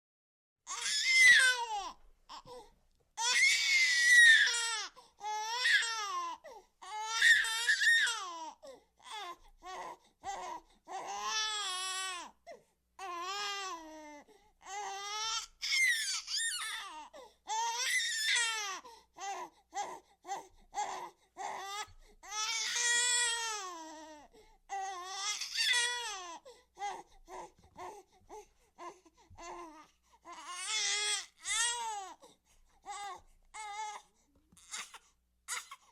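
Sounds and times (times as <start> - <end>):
baby crying and gasping: 0.7 - 35.9.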